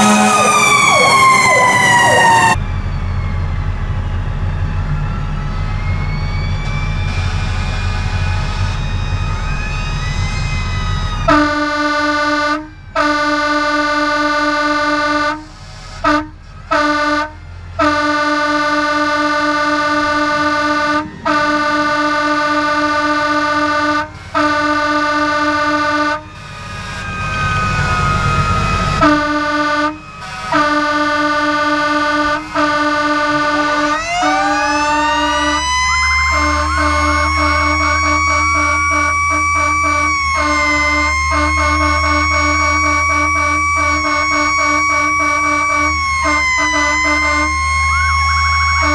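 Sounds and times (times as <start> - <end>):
fire engine air horns blasting: 0.0 - 2.6, 6.4 - 48.9
mechanical siren winding up: 0.0 - 11.8, 18.6 - 48.9
diesel engine rumble: 0.0 - 48.9.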